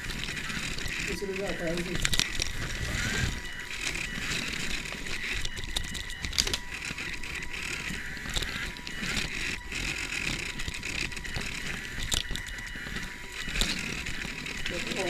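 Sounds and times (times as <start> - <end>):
faint high whine: 0.0 - 15.0
small motors whirring: 0.0 - 15.0
wheels clicking over paper: 0.0 - 15.0.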